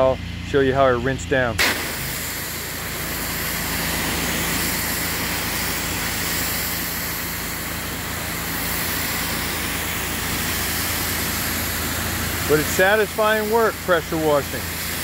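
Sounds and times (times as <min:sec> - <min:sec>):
gas engine droning: 0:00.0 - 0:15.0
pressure washer spray hissing: 0:01.6 - 0:15.0.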